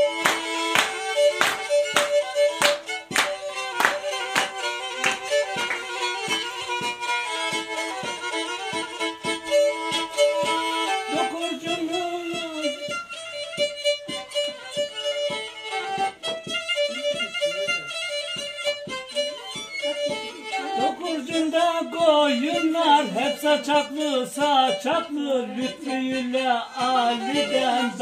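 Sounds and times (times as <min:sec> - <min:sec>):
bowed fiddle folk dance tune: 0:00.0 - 0:28.0
steady tapping beat: 0:00.0 - 0:28.0.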